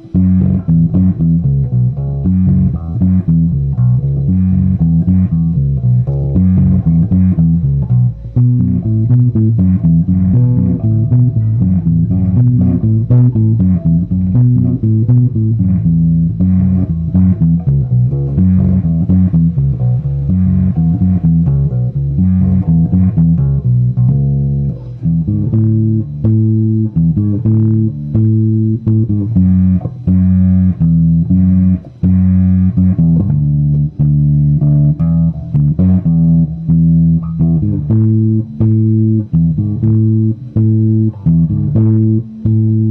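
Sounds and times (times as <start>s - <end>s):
electric bass guitar plucked notes: 0.0s - 42.9s.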